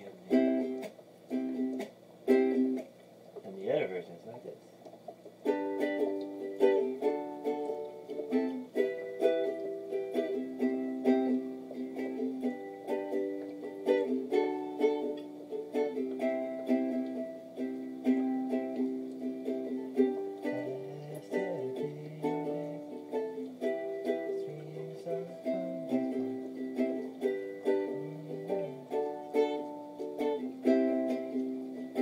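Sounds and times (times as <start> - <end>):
ukulele strumming: 0.0 - 3.6, 4.9 - 32.0.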